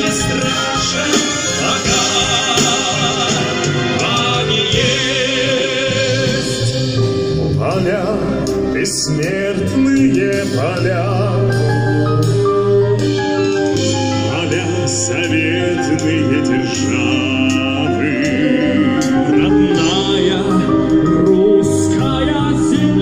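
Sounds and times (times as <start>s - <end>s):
man singing with vibrato: 0.0s - 13.0s, 14.1s - 23.0s
brass band playing: 0.0s - 23.0s.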